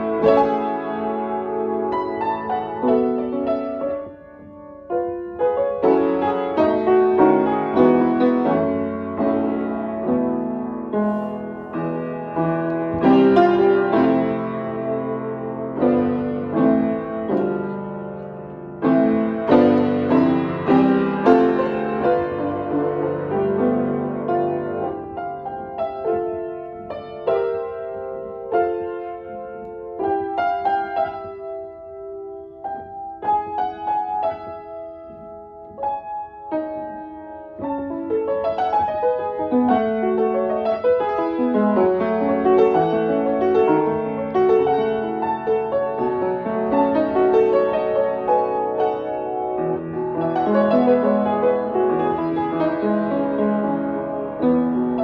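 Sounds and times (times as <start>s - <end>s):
upright piano playing: 0.0s - 55.0s.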